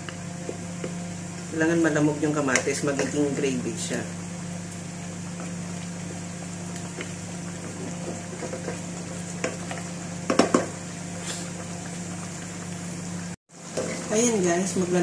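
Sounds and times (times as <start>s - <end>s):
food simmering and sizzling in a pot: 0.0s - 15.0s.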